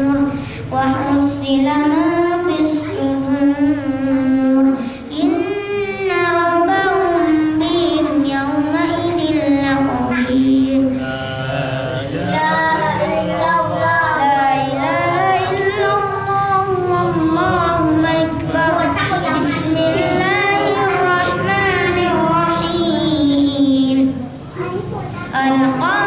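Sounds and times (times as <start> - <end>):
boy chanting melodically: 0.0 - 26.0.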